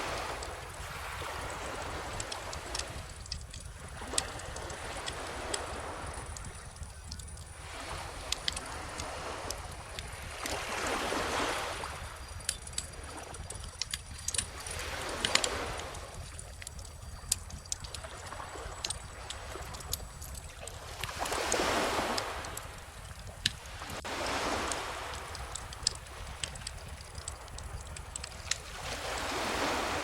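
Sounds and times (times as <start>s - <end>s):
bonfire crackling and popping: 0.0s - 11.0s, 11.8s - 29.7s
waves washing onto beach: 0.0s - 30.0s.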